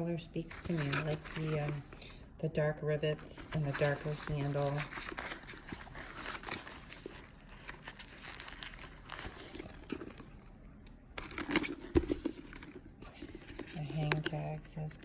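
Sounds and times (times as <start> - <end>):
packaging crinkling and rustling: 0.5 - 2.1, 3.2 - 10.5, 11.2 - 15.0.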